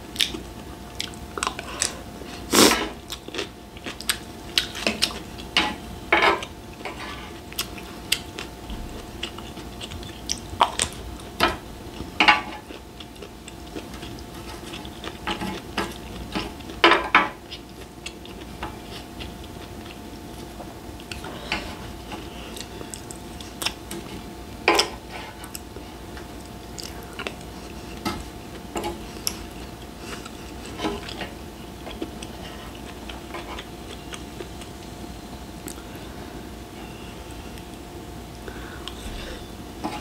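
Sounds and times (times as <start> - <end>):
faint steady hum: 0.0 - 40.0
person chewing food: 0.1 - 35.0.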